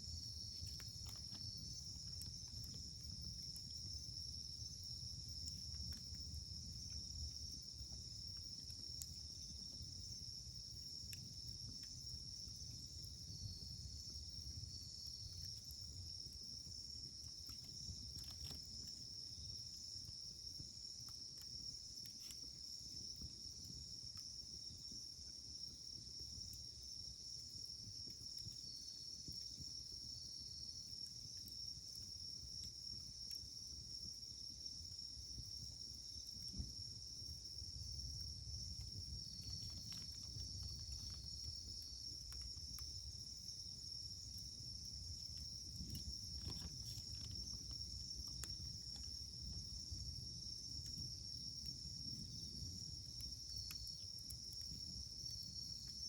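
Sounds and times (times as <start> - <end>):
campfire burning and crackling: 0.0 - 56.0
insects chirping: 0.0 - 56.0.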